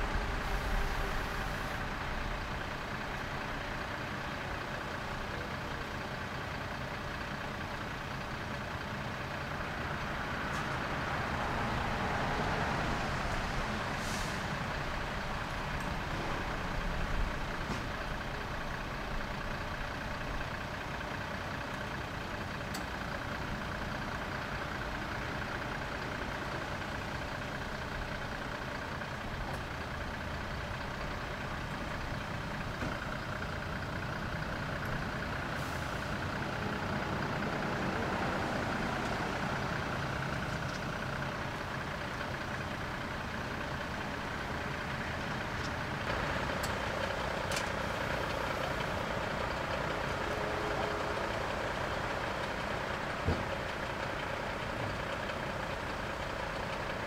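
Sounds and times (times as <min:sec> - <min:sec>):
diesel truck engines running: 0:00.0 - 0:57.0.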